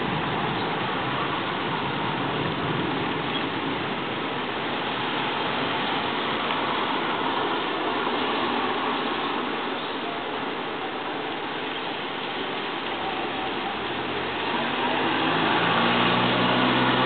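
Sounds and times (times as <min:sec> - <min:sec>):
rain falling on wet street: 0:00.0 - 0:17.0.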